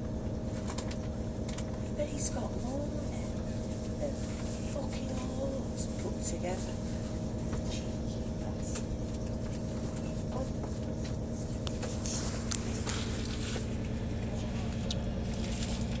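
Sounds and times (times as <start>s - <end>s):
faint steady hum: 0.0s - 16.0s
train carriage rumbling: 0.0s - 16.0s.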